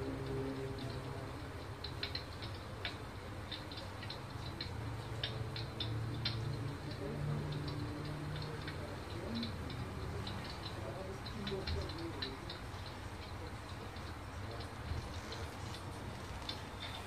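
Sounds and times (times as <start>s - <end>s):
fireplace crackling snaps and pops: 0.0s - 17.0s
low steady hum: 0.0s - 17.0s.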